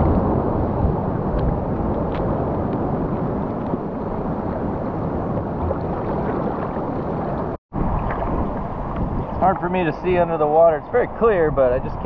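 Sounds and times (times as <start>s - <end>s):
sea water rushing: 0.0s - 11.7s
wind buffeting microphone: 0.0s - 12.0s.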